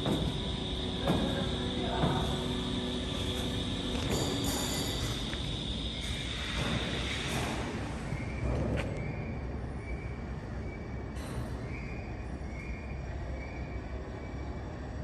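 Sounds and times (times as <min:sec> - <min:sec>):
high squeal: 0:00.3 - 0:14.5.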